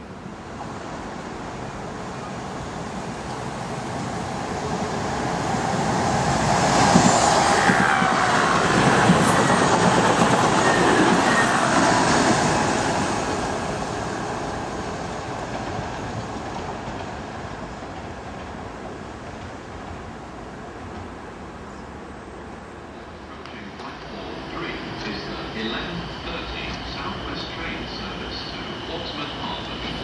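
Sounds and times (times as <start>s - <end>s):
diesel train passing at speed: 0.0s - 30.0s.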